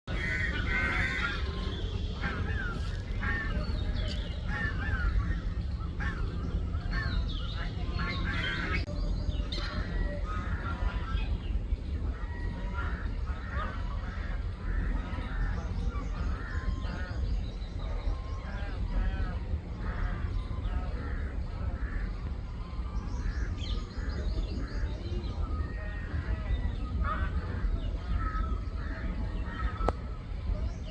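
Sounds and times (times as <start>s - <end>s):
flying foxes calling harshly: 0.1s - 30.9s
steady low rumble: 0.1s - 30.9s.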